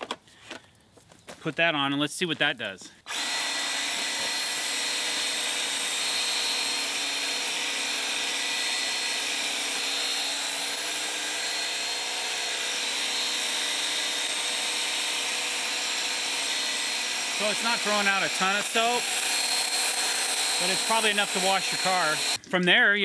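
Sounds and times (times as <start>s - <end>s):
pump motor running: 3.1s - 22.4s.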